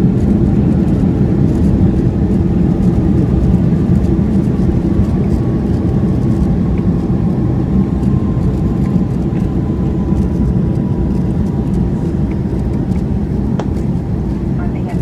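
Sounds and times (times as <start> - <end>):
faint jet engine whine: 0.0 - 15.0
low cabin rumble: 0.0 - 15.0.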